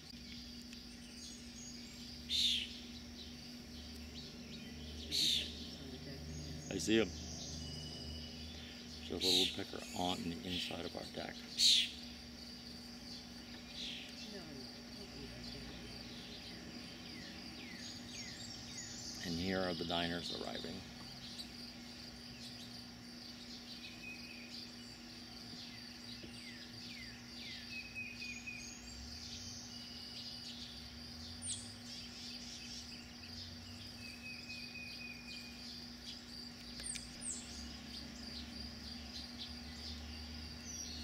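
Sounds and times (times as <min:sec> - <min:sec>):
high insect chorus: 0:00.0 - 0:41.0
low steady hum: 0:00.0 - 0:41.0
songbirds chirping: 0:00.0 - 0:41.0.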